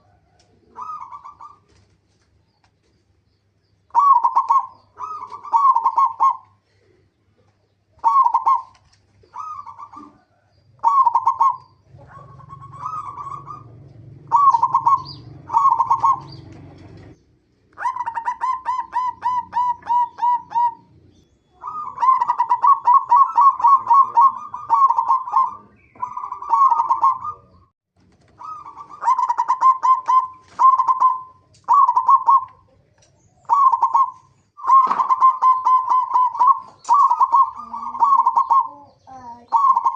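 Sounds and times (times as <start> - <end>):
dove cooing: 0.0 - 1.9, 3.9 - 39.9.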